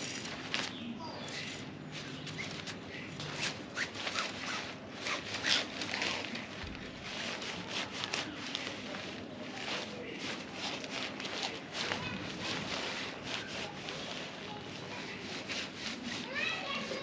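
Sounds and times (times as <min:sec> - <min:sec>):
tent fabric rustling: 0:00.0 - 0:17.0
tent poles scraping: 0:00.0 - 0:17.0.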